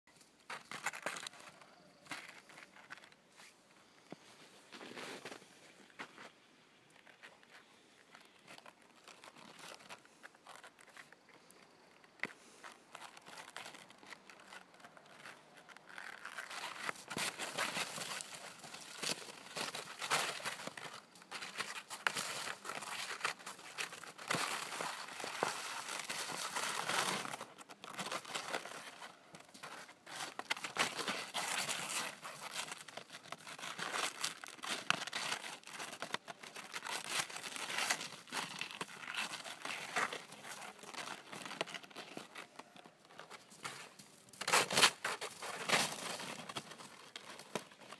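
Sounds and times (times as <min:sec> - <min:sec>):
plastic collar crinkling: 0:06.9 - 0:47.9.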